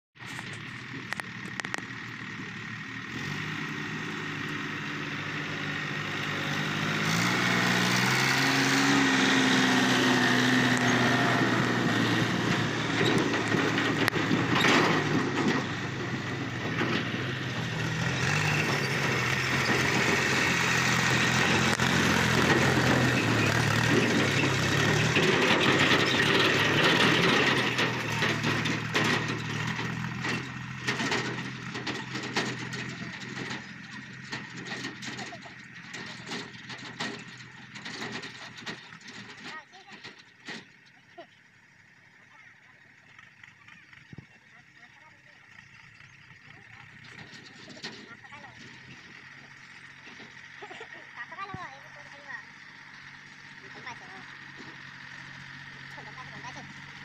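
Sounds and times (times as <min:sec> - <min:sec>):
diesel tractor engine running: 0:00.2 - 0:57.0.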